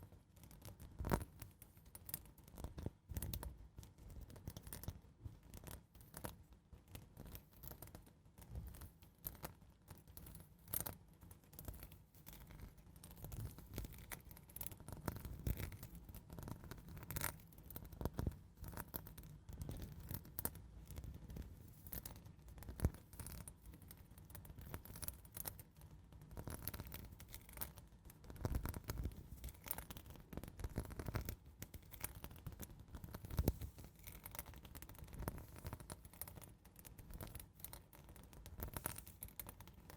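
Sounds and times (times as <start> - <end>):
soft scratching close to microphone: 2.2 - 25.6, 26.2 - 39.9.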